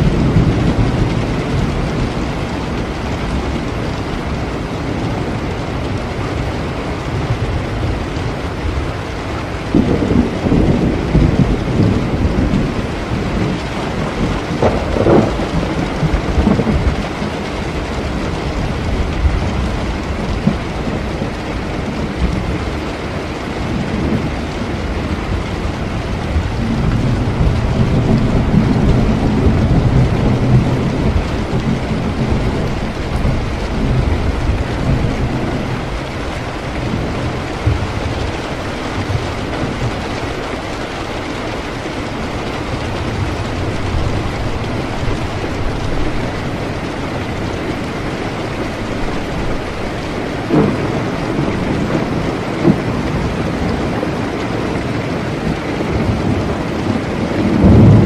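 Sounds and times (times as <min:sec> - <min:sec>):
rolling thunder: 0:00.0 - 0:58.0
steady rain falling: 0:00.0 - 0:58.0
thunder crackle: 0:09.6 - 0:22.8, 0:23.8 - 0:54.4, 0:55.2 - 0:58.0.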